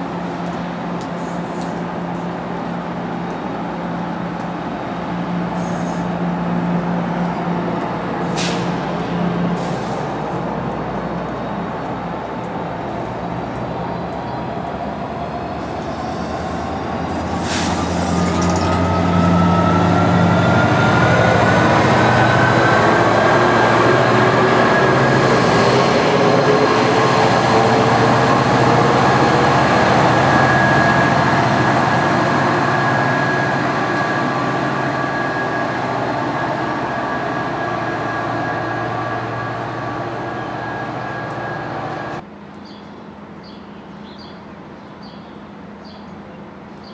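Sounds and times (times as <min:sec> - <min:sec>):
diesel locomotive engine whine: 0:00.0 - 0:46.8
train wheel and car rumble: 0:00.0 - 0:46.9.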